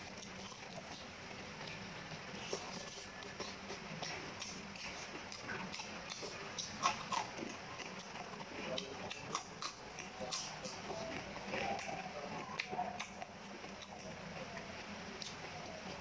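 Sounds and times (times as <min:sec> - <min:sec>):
chewing with wet mouth clicks: 0:00.0 - 0:16.0.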